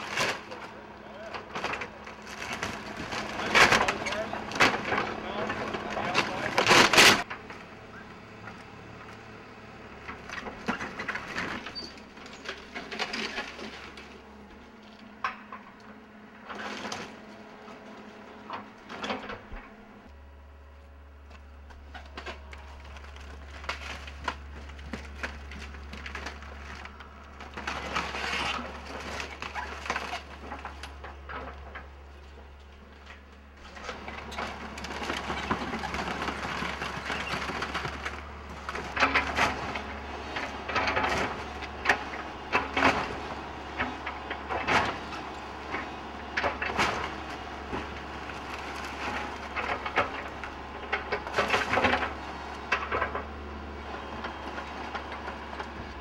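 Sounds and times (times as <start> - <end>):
excavator engine hum: 0.0 - 56.0
timber cracking and crunching: 1.4 - 7.6, 10.0 - 15.4, 21.2 - 56.0.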